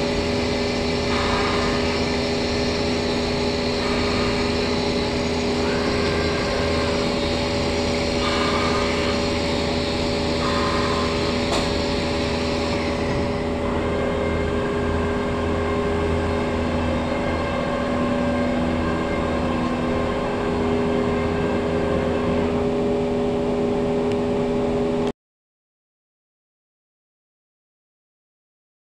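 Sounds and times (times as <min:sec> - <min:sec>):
high machine hiss: 0:00.0 - 0:24.4
router machine drone and whine: 0:00.0 - 0:25.1.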